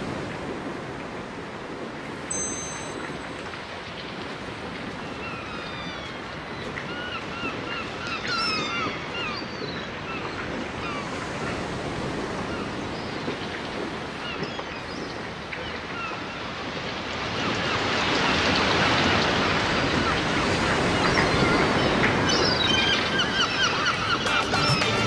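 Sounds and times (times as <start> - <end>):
surf washing: 0.0 - 25.0.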